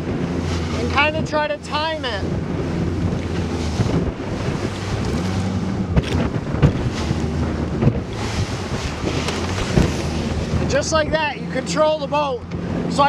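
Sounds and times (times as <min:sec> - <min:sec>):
hull slapping waves: 0:00.0 - 0:13.0
outboard motor running: 0:00.0 - 0:13.0
wind on microphone: 0:00.0 - 0:13.0.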